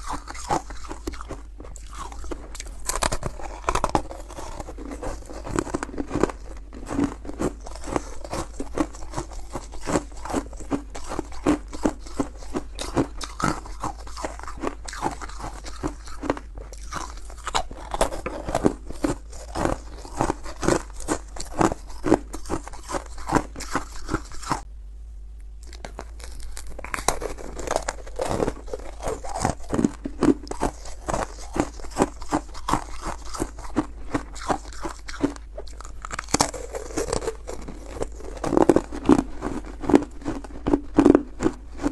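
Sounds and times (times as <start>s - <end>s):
crunching frost being chewed: 0.0s - 24.7s, 25.6s - 41.9s.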